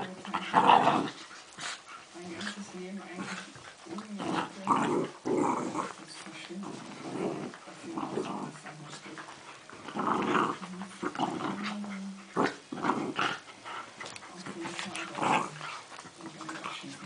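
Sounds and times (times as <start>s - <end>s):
dogs growling: 0.0s - 17.0s.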